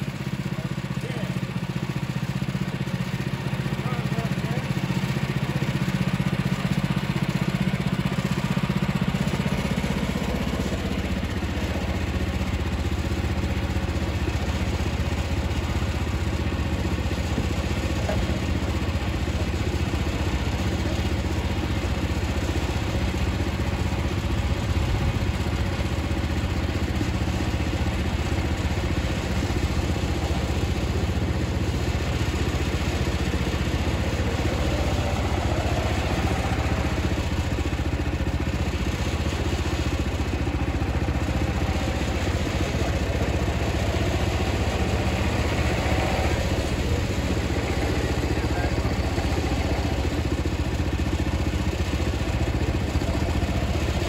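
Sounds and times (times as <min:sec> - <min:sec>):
sawmill gasoline engine running: 0:00.0 - 0:54.0.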